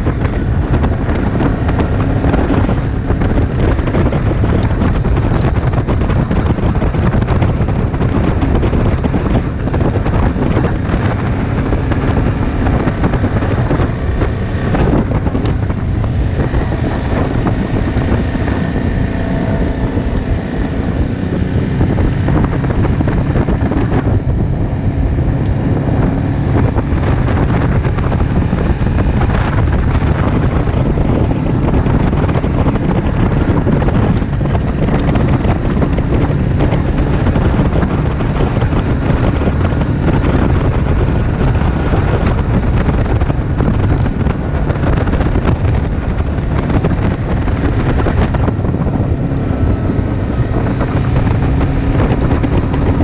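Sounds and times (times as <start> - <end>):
vehicle engine running: 0.0 - 53.0
wind buffeting microphone: 0.0 - 53.0.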